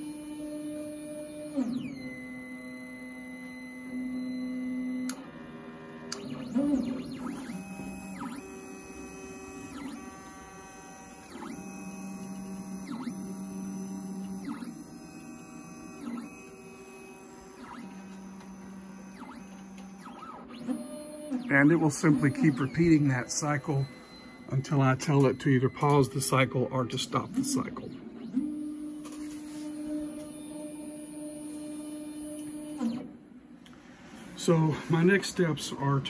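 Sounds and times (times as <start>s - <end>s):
stepper motors whining: 0.8s - 33.0s.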